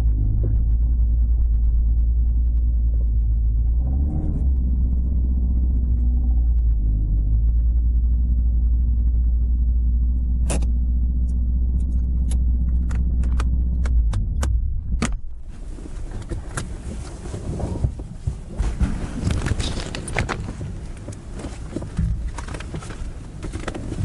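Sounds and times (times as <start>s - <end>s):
car engine idling: 0.0s - 18.6s, 19.2s - 24.0s.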